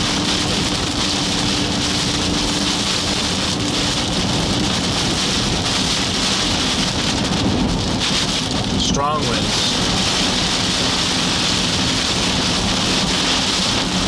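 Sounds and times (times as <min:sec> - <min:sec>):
heavy rain on car: 0:00.0 - 0:14.0
low road rumble: 0:00.0 - 0:14.0.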